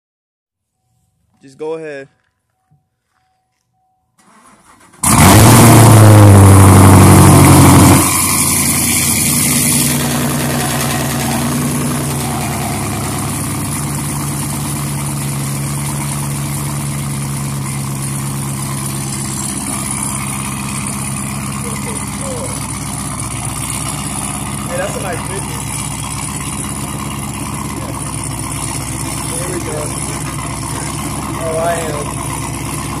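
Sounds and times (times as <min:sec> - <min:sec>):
car engine revving and idling: 0:04.5 - 0:33.0.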